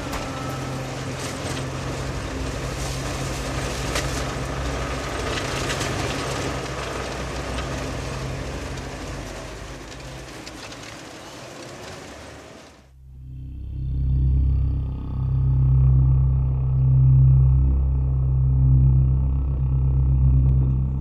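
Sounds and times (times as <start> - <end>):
road noise: 0.0 - 21.0
van engine drone: 0.0 - 21.0.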